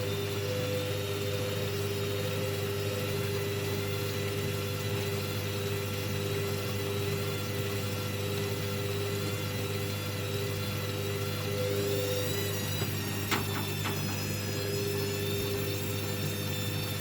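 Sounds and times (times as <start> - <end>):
high-pitched whine: 0.0 - 17.0
washing machine motor hum: 0.0 - 17.0.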